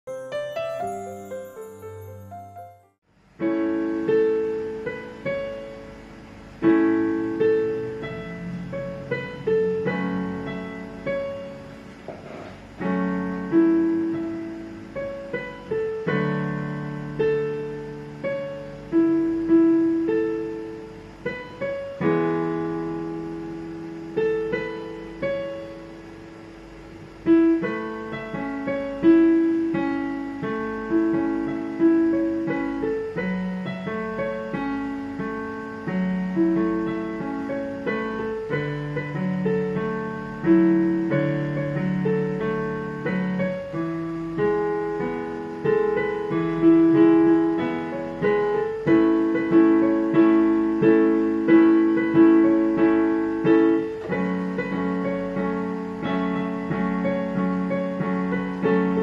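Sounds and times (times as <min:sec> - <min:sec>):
solo piano ballad: 0:00.0 - 0:59.0.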